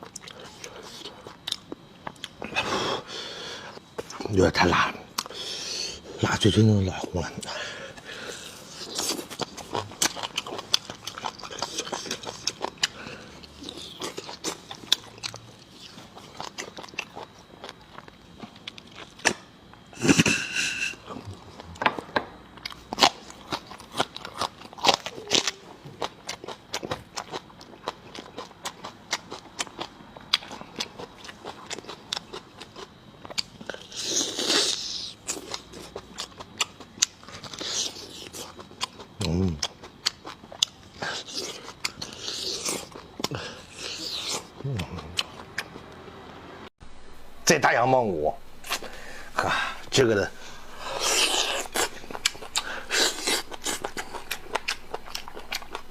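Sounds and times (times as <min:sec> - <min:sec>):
person chewing wetly: 0:00.0 - 0:02.6, 0:05.2 - 0:05.4, 0:07.4 - 0:19.8, 0:22.6 - 0:46.0, 0:48.6 - 0:55.9
food crunching: 0:07.0 - 0:46.1, 0:48.4 - 0:55.9.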